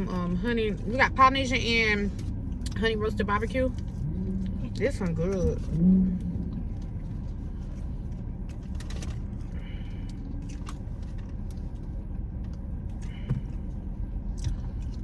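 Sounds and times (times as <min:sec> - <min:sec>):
low rumble inside car cabin: 0:00.0 - 0:15.0.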